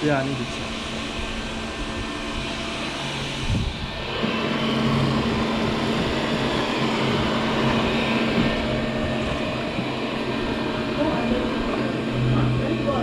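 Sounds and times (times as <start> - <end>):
robot vacuum cleaner motor humming: 0.0 - 13.0.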